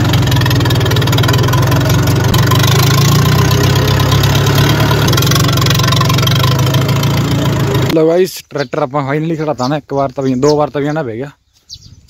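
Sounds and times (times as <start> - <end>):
tractor diesel exhaust chatter: 0.0 - 10.6.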